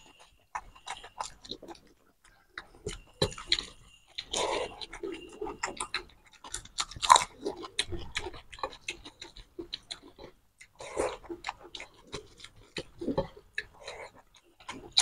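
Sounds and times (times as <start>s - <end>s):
people chewing with wet smacks: 0.0s - 15.0s.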